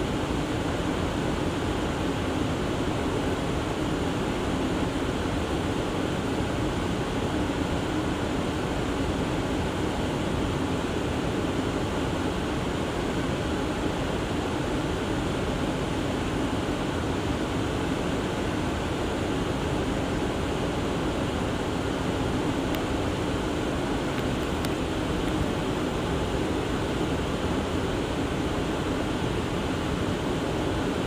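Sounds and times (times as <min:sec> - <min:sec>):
subway car ventilation drone: 0:00.0 - 0:31.0.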